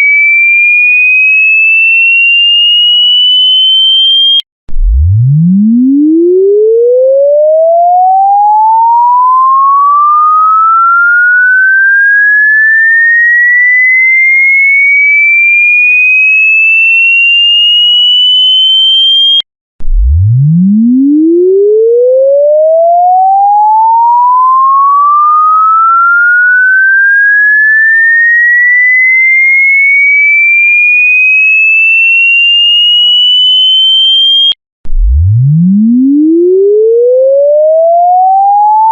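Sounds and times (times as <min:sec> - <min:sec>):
sine-wave test tone sweeping upward: 0:00.0 - 0:38.9.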